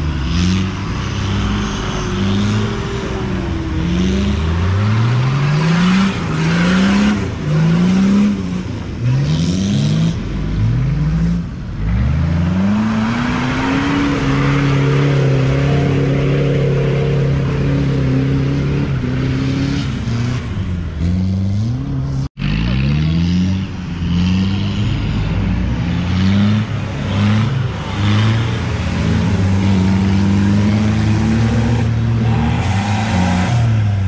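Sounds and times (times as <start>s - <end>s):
off-road vehicle engine revving: 0.0s - 34.0s.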